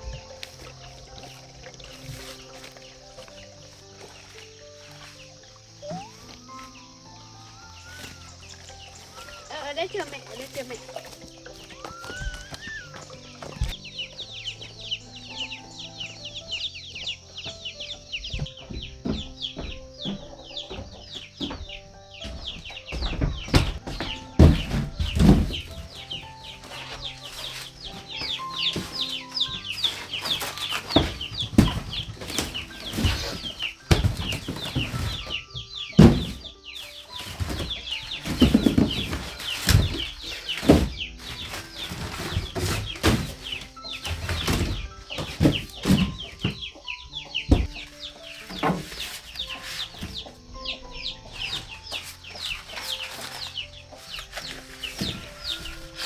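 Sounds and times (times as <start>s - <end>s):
chicks peeping: 0.0s - 56.0s
knocks and rustles: 0.0s - 56.0s.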